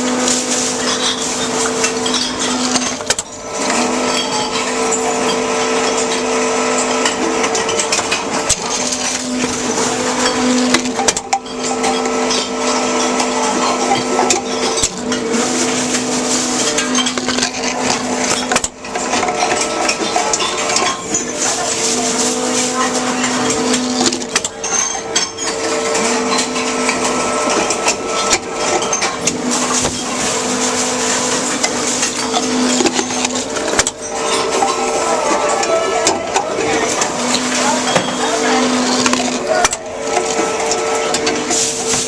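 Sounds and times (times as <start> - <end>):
bottles rattling: 0.0 - 42.0
vending machine motor hum: 0.0 - 42.0.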